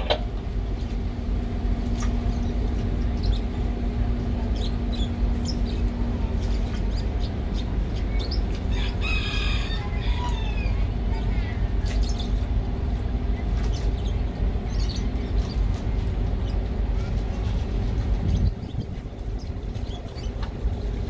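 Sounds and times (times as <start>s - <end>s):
steady hum: 0.0s - 21.0s
steady low rumble: 0.0s - 21.0s.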